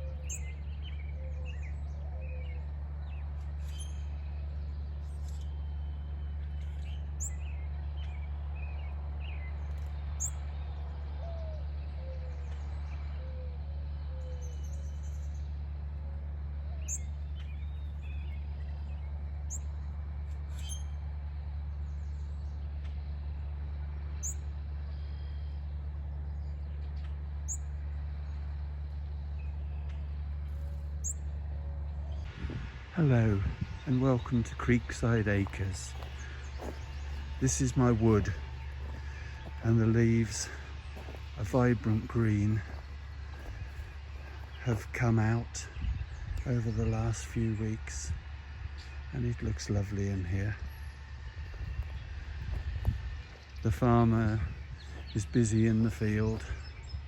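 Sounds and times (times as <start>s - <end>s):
lower bird call phrases: 0.0s - 19.8s, 27.4s - 57.0s
steady low drone: 0.0s - 57.0s.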